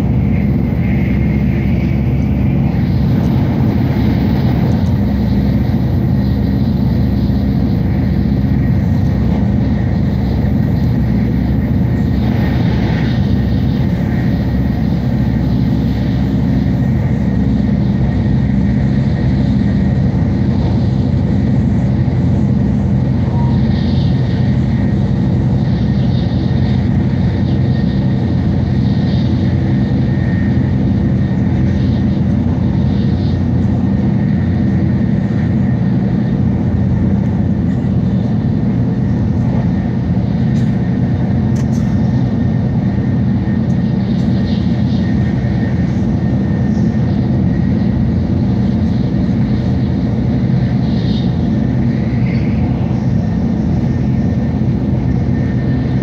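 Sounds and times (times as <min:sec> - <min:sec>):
train cabin rumble and hum: 0:00.0 - 0:56.0.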